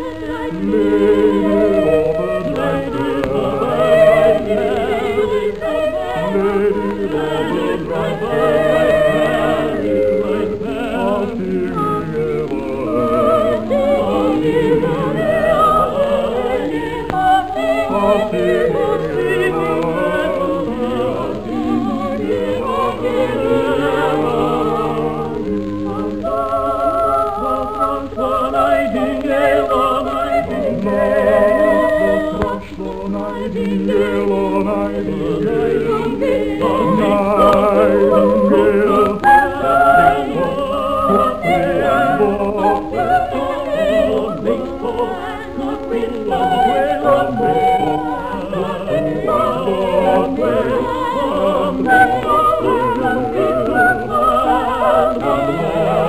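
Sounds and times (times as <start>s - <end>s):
accompanying musical parts: 0.0s - 56.0s
soprano singing: 0.0s - 56.0s.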